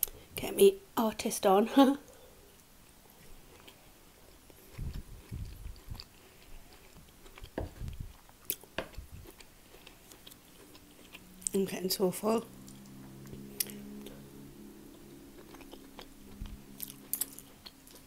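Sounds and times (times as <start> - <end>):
person chewing food: 2.5 - 11.6, 12.5 - 18.0.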